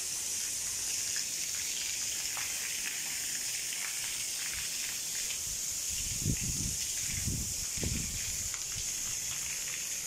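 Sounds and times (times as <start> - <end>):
faint drips and splashes: 0.0 - 10.0
water sprinklers hissing: 0.0 - 10.0.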